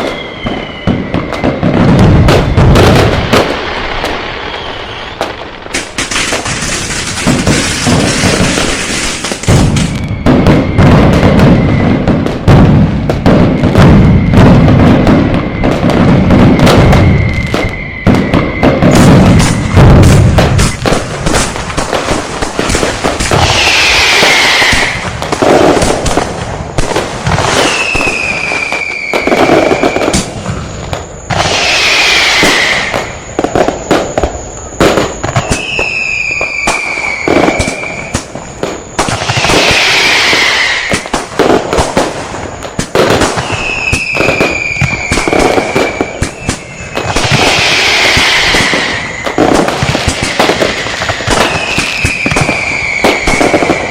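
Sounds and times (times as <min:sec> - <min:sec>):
firecrackers cracking: 0:00.0 - 0:53.9
whistling firework falling in pitch: 0:00.0 - 0:53.9.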